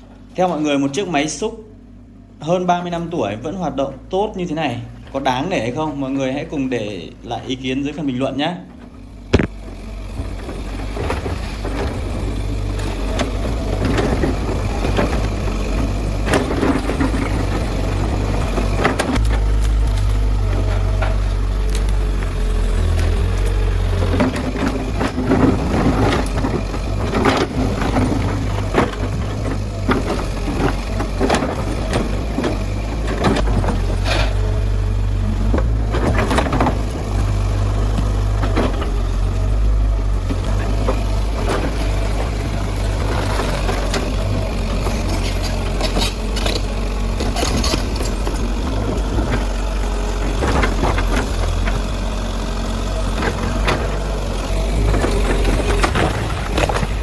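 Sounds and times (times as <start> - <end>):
excavator diesel engine running: 0.0 - 57.0
demolition knocks and cracks: 8.7 - 57.0.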